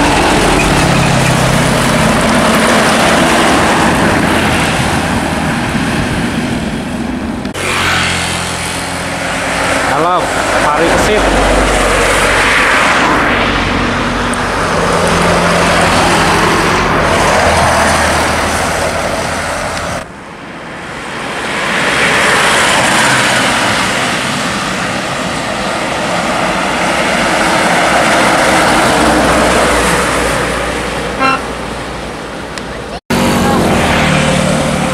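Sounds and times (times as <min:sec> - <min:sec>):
trucks driving past: 0:00.0 - 0:34.9.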